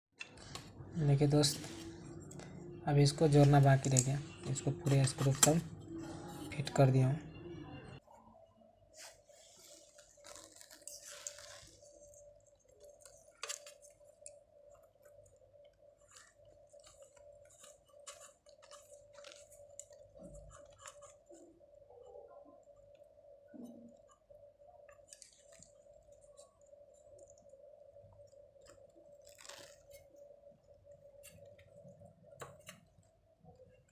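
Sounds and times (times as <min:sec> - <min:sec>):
faint steady hum: 0:00.2 - 0:33.9.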